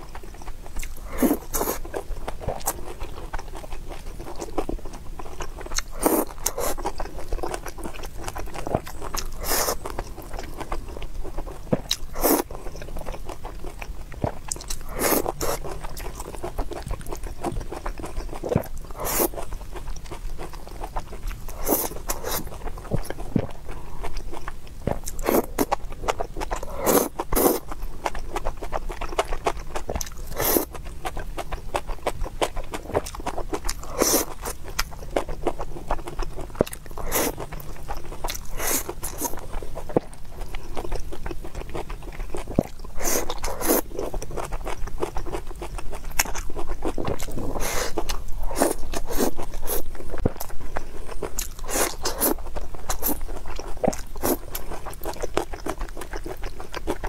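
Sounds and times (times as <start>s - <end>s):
chewing with wet mouth smacks: 0.0s - 57.0s.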